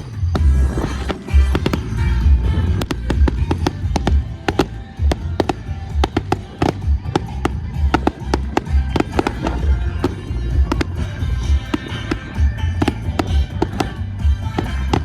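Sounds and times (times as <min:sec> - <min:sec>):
fireworks bangs and crackles: 0:00.0 - 0:15.0
fireworks deep booms: 0:00.0 - 0:15.0
music playing: 0:00.0 - 0:15.0.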